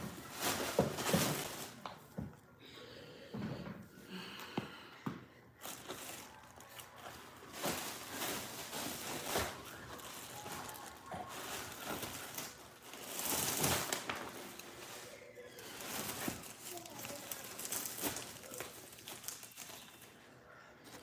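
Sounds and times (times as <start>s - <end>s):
plastic bag rustling: 0.0s - 1.9s, 5.6s - 21.0s.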